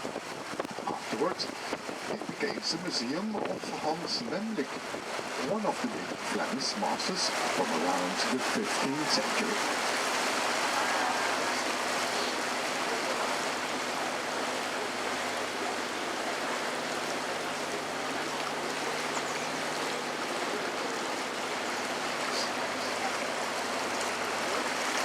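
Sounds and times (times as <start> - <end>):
water rushing along boat hull: 0.0 - 25.0.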